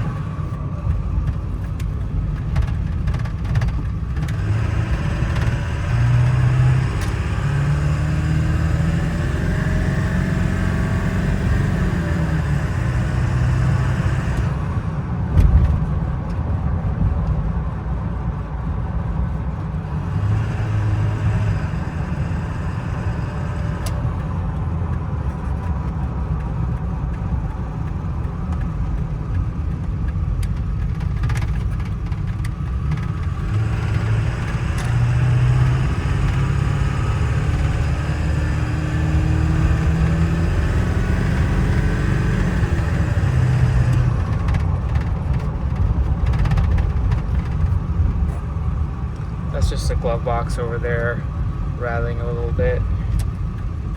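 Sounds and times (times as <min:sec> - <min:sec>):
diesel engine drone in cab: 0:00.0 - 0:53.9
road noise: 0:00.0 - 0:53.9.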